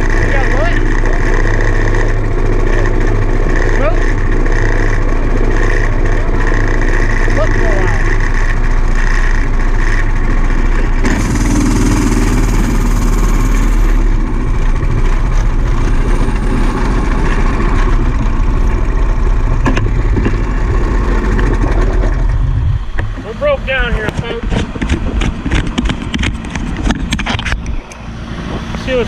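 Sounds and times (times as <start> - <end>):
vehicle engine droning: 0.0 - 29.0.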